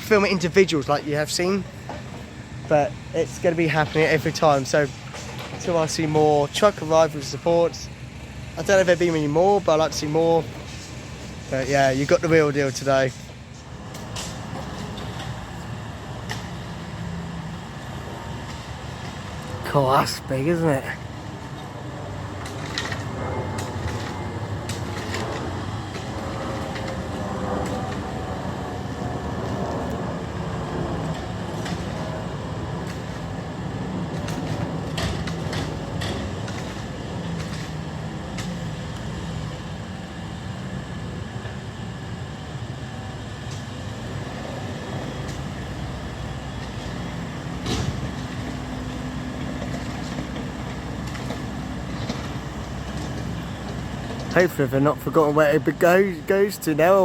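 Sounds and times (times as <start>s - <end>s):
low rumble of engines: 0.0s - 57.0s.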